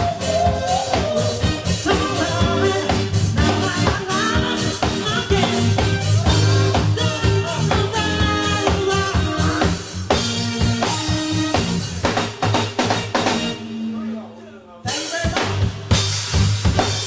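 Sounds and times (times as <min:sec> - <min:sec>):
drum kit steady beat: 0:00.0 - 0:13.8, 0:14.8 - 0:17.0
bass: 0:00.0 - 0:17.0
keyboards: 0:00.0 - 0:17.0.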